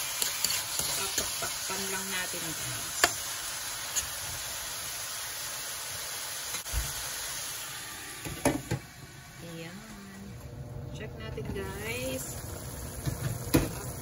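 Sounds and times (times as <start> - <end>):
meat and onion sizzling in a pan: 0.0 - 10.0, 11.5 - 14.0.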